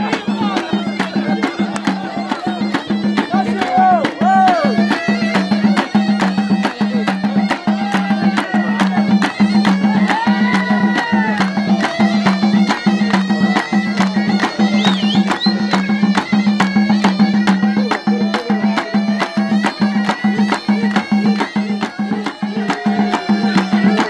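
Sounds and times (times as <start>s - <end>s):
reed shawm melody: 0.0s - 24.0s
steady drum beat: 0.0s - 24.0s.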